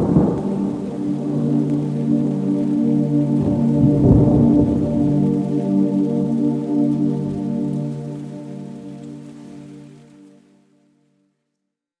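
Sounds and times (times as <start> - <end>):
rain hissing: 0.0 - 10.6
soft ambient music chord: 0.0 - 11.3.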